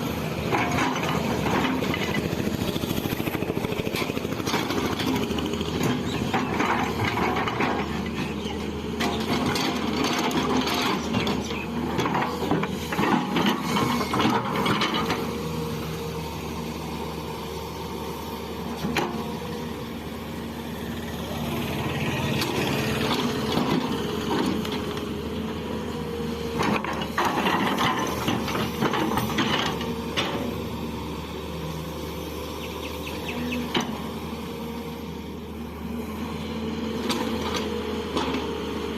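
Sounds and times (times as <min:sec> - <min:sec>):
excavator diesel engine droning: 0:00.0 - 0:38.9.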